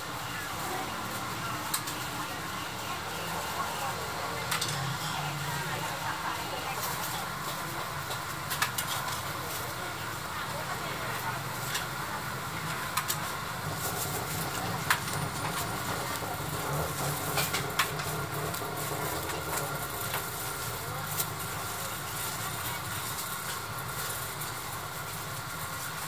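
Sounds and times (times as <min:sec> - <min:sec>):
faint chatter: 0:00.0 - 0:26.0.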